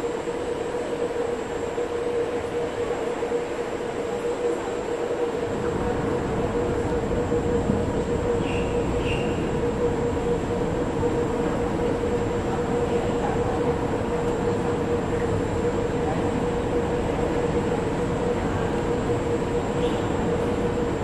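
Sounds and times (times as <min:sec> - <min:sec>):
rail system rumble and hum: 0:00.0 - 0:21.0.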